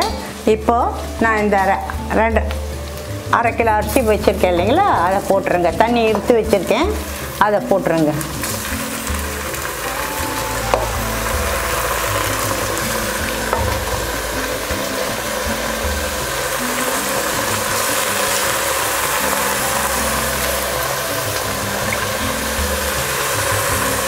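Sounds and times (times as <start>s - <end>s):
rice sizzling in hot oil: 0.0s - 24.0s.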